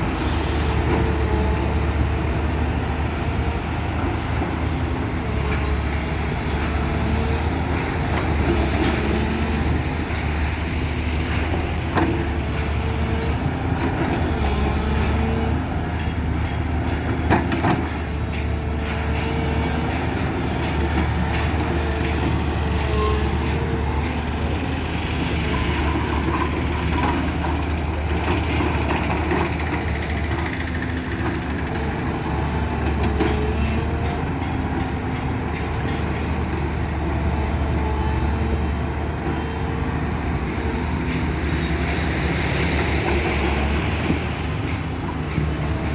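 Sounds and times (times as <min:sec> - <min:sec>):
heavy diesel engine under load: 0:00.0 - 0:45.9.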